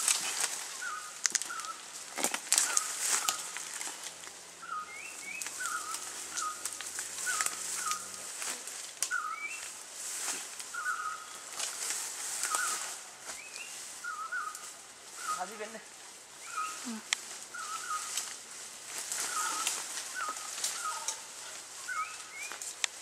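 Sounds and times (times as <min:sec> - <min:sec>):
leaves and branches rustling: 0:00.0 - 0:23.0
birds chirping: 0:00.2 - 0:09.8, 0:10.4 - 0:23.0.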